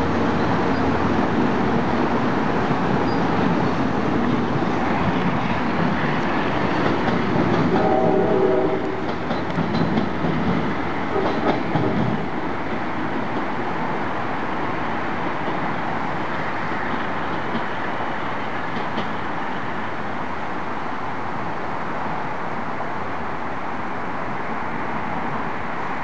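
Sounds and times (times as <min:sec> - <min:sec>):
train cars rumbling on track: 0:00.0 - 0:26.0.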